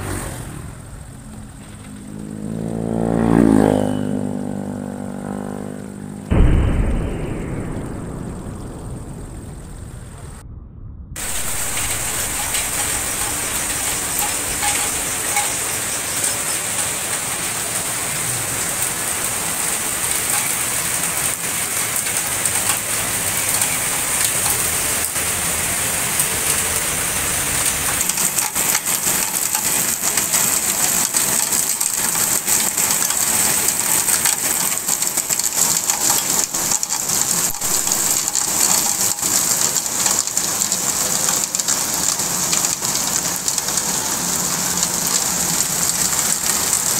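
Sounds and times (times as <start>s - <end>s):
heavy rain on wet pavement: 0.0s - 10.2s, 11.2s - 46.9s.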